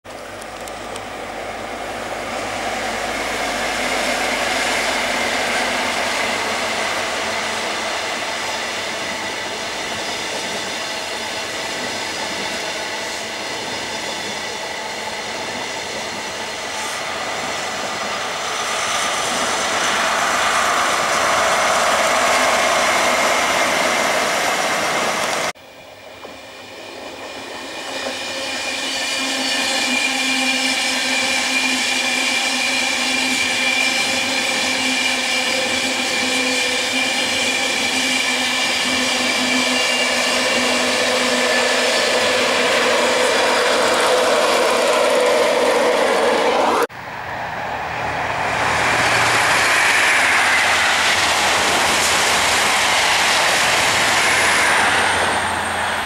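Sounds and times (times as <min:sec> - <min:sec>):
train wheels rushing on rail: 0:00.0 - 0:56.0
quieter train approaching: 0:00.1 - 0:56.0.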